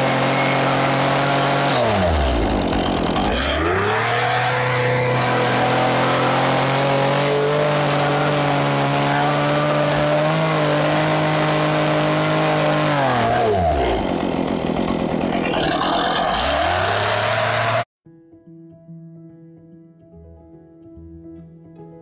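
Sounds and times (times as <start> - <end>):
chainsaw revving and idling: 0.0 - 17.9.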